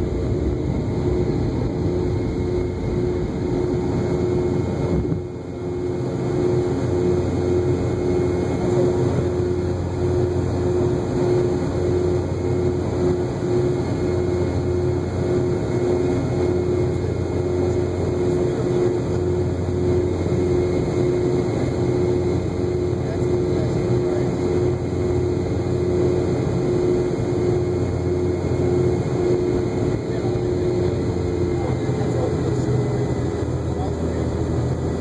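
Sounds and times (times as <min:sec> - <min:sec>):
jet engine drone in cabin: 0:00.0 - 0:35.0
pulsing hum: 0:00.0 - 0:35.0.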